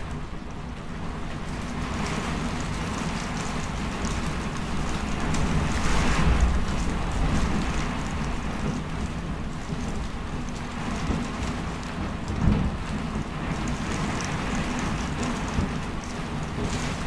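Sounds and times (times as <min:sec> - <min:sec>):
steady rain falling: 0:00.0 - 0:17.0
deep rumble: 0:01.1 - 0:17.0.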